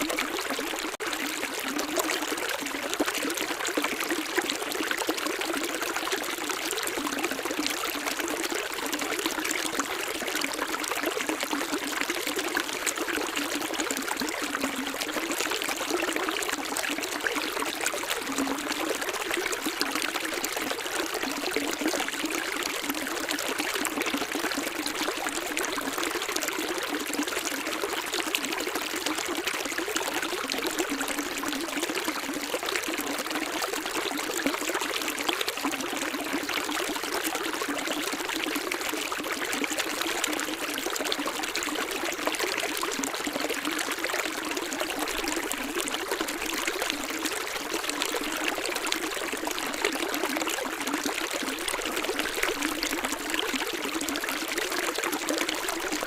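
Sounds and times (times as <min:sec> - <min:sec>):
stream trickling and splashing: 0:00.0 - 0:56.0.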